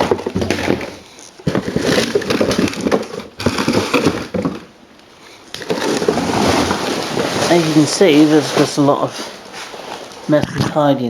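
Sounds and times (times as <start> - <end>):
hard plastic items clattering: 0.0 - 10.8.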